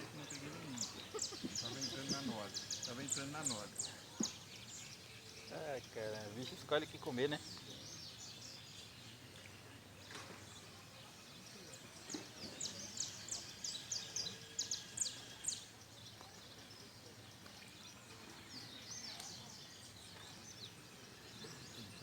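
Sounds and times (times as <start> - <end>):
birds chirping: 0.0 - 22.0
faint outdoor background: 0.0 - 22.0.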